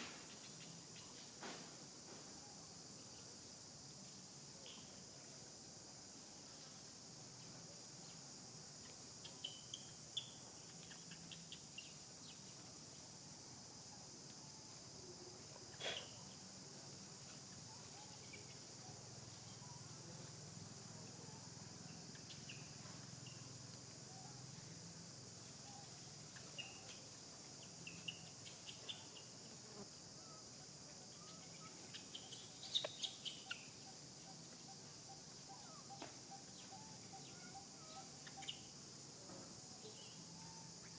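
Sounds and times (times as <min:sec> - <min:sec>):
high-pitched insect drone: 0:06.2 - 0:40.9.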